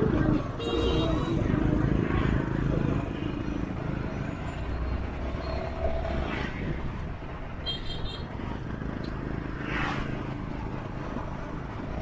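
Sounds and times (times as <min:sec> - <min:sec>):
city traffic engines and road rumble: 0:00.0 - 0:12.0.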